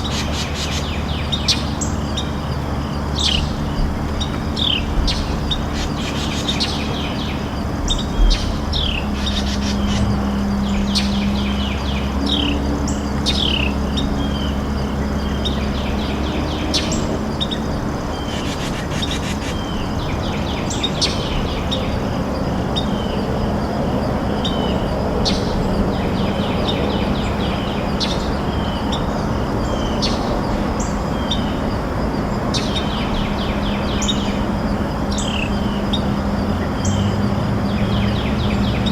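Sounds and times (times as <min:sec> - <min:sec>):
birds chirping: 0:00.0 - 0:38.9
steady low hum: 0:00.0 - 0:38.9.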